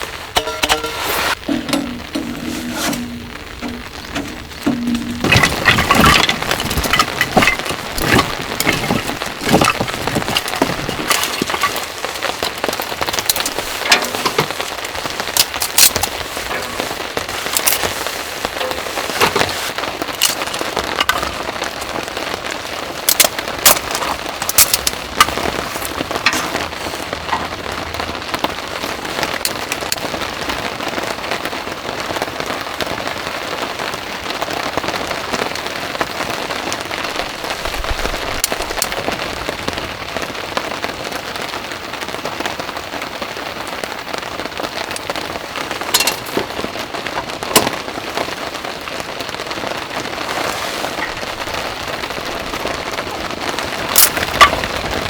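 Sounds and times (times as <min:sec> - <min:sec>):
heavy rain falling: 0:00.0 - 0:55.0
sharp rain drop strikes: 0:00.0 - 0:55.0.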